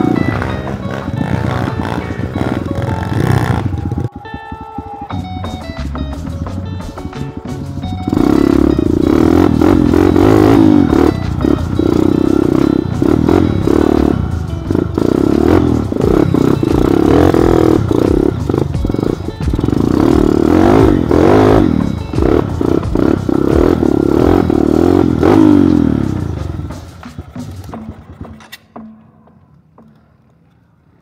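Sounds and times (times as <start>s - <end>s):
motorcycle engine revving: 0.0s - 29.0s
bike clattering over bumps: 0.0s - 29.1s.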